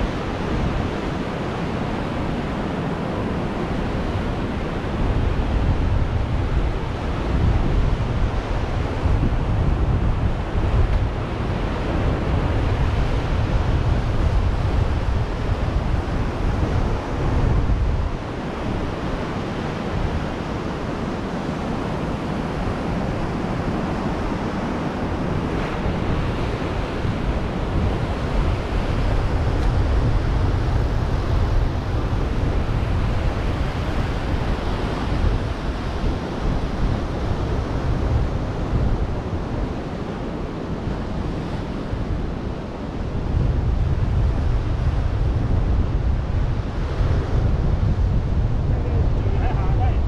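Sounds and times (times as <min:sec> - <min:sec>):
ocean surf washing onto beach: 0:00.0 - 0:50.0
wind buffeting microphone: 0:00.0 - 0:50.0.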